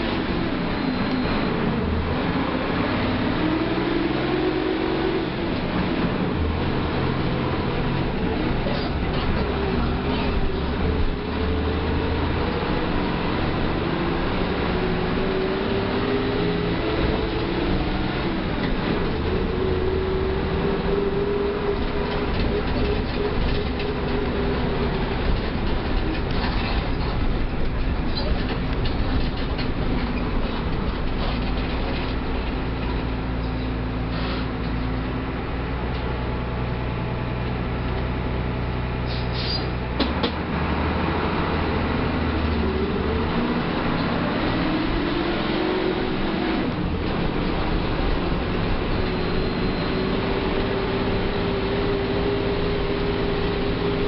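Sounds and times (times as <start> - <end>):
bus diesel engine whine and rumble: 0.0 - 54.0.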